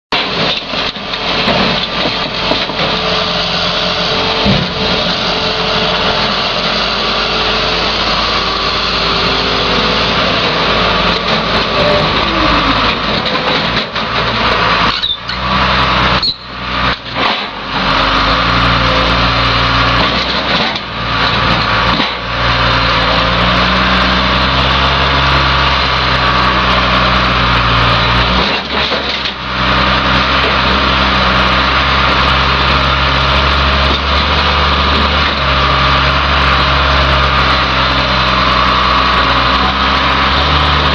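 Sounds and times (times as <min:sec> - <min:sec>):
diesel loader engine revving: 0:00.1 - 0:40.9.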